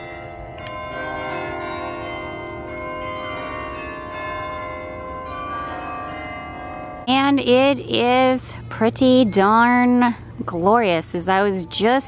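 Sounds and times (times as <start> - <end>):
carillon bells playing melody: 0.0 - 12.0.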